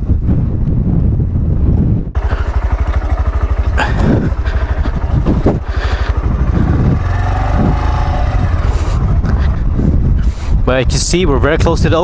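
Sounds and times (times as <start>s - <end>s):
motorcycle engine running: 0.1s - 12.0s.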